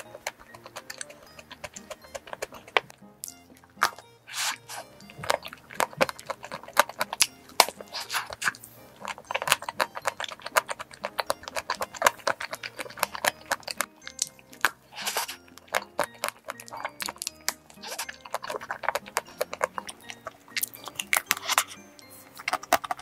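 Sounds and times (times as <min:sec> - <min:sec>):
chewing mouth sounds: 0:00.0 - 0:23.0
crisp chocolate shell crackling: 0:00.0 - 0:23.0
faint background music: 0:00.0 - 0:23.0.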